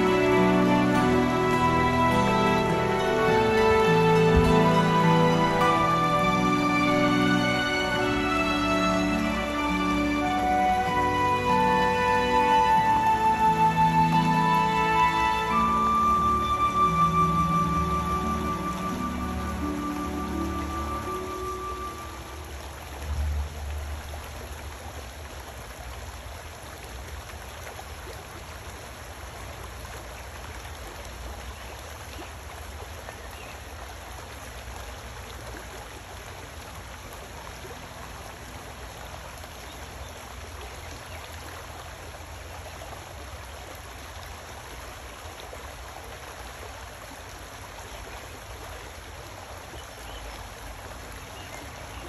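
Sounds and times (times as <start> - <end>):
brook water rippling: 0.0 - 52.0.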